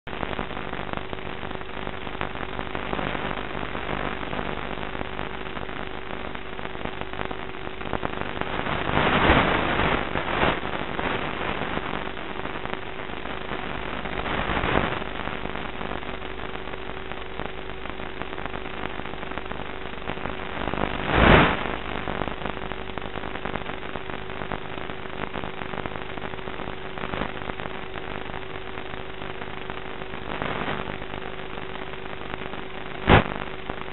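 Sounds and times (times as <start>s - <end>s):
faint steady hum: 0.1s - 33.9s.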